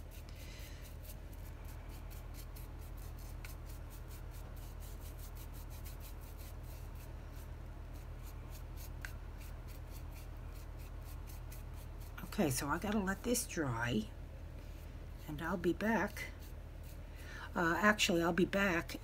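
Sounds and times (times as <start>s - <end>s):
scratchy paintbrush strokes: 0.0s - 13.5s, 14.6s - 18.1s
low electrical hum: 0.0s - 19.0s.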